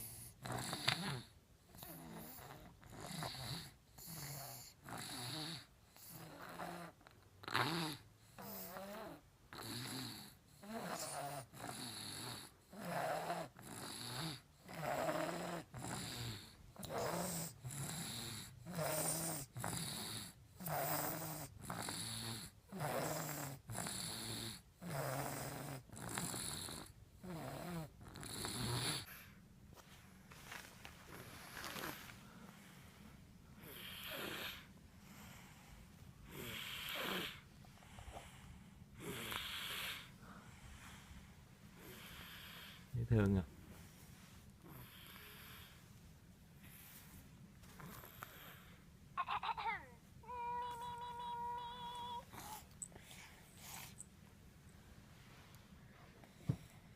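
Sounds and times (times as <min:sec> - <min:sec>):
baby snoring: 0:00.0 - 0:29.3, 0:31.1 - 0:32.2, 0:33.6 - 0:41.2, 0:41.8 - 0:43.3, 0:47.8 - 0:54.0.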